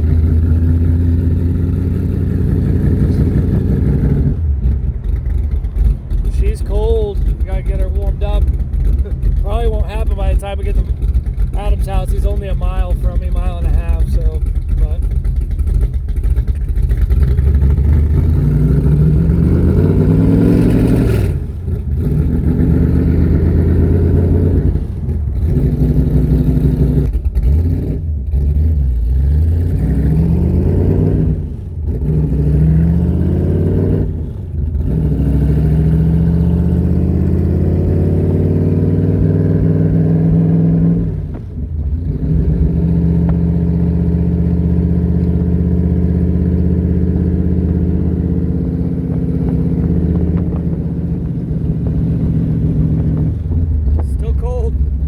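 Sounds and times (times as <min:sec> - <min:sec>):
car engine pulling hard: 0:00.0 - 0:55.0.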